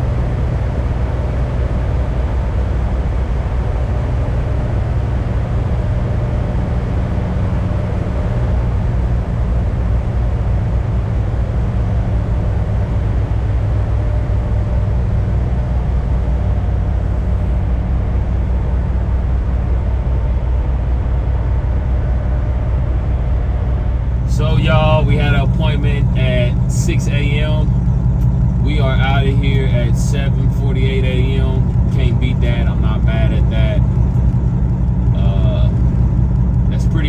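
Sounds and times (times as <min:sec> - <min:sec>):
diesel truck engine running: 0:00.0 - 0:37.0.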